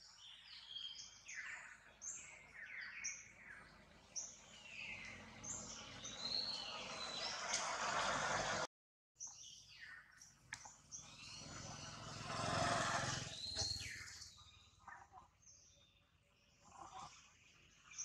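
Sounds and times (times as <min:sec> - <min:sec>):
high falling bird calls: 0:00.0 - 0:08.6, 0:09.2 - 0:18.0.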